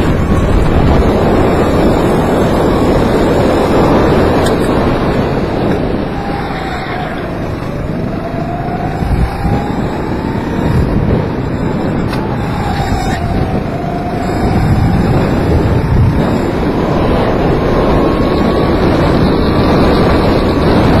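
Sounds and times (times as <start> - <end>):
kart engine whine: 0.0 - 21.0
wind noise on microphone: 0.0 - 21.0.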